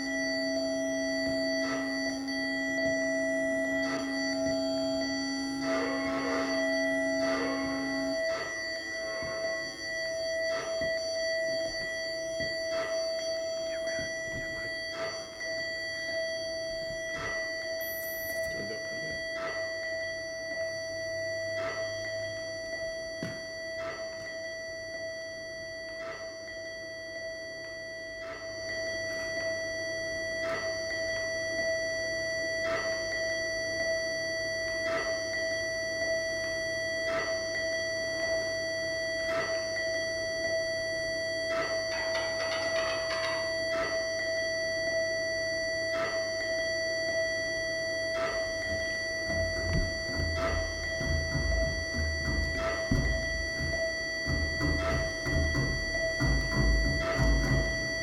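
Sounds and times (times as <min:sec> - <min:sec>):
electronic music held tones: 0:00.0 - 0:58.0.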